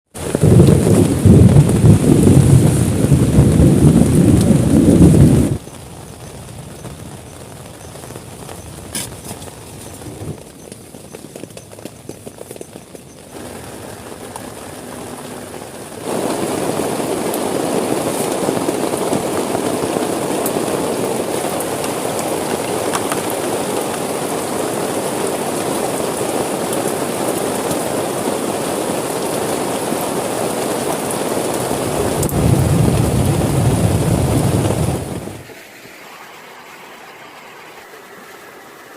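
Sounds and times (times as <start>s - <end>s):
rain falling on a tent: 0.1s - 35.5s.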